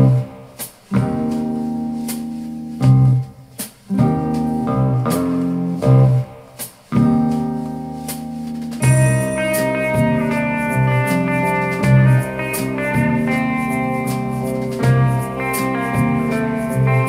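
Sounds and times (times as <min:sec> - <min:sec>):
instrumental rock through speakers: 0:00.0 - 0:17.0.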